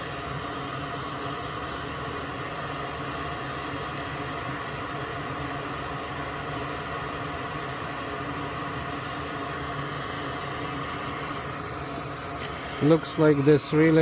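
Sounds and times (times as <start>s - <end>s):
fan-like hiss with low hum: 0.0s - 14.0s.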